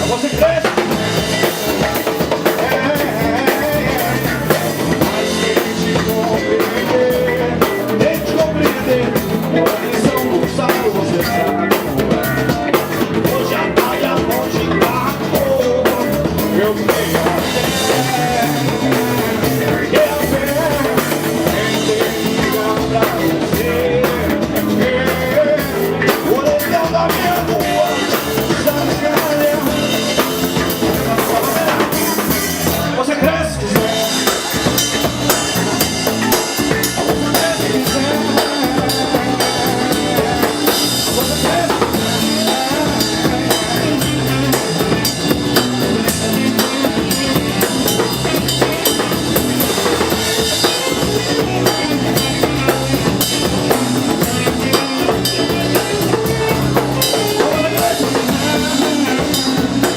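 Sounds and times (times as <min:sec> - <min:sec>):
drum kit beat: 0:00.0 - 0:59.9
live band playing instrumental: 0:00.0 - 0:59.9.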